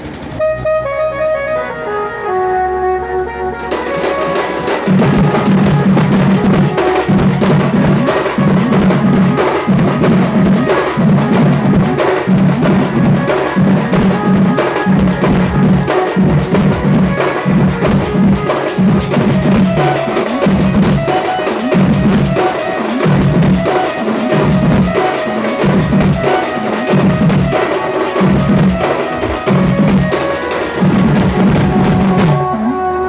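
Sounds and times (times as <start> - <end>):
fast drum rhythm: 3.5 - 33.0.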